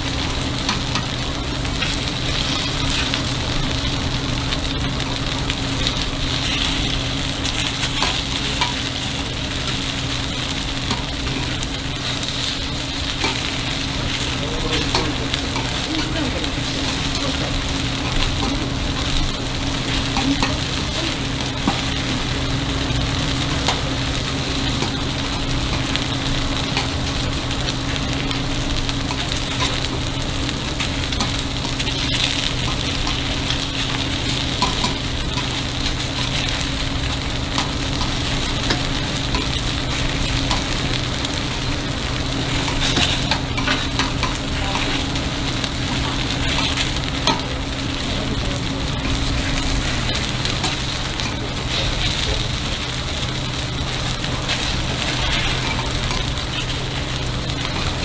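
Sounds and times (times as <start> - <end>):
batter sizzling in a hot pan: 0.0 - 58.0
steady low hum: 0.0 - 58.0
utensils clicking against pan: 0.6 - 4.1, 5.5 - 22.2, 22.9 - 27.2, 27.8 - 47.6, 48.2 - 53.0, 54.4 - 58.0.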